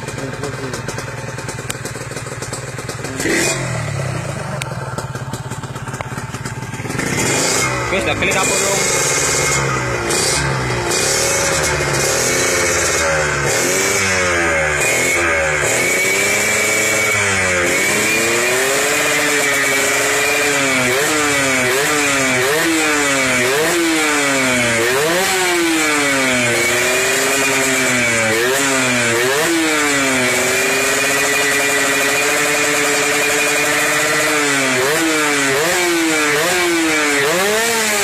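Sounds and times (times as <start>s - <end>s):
two-stroke engine revving: 0.0s - 38.0s.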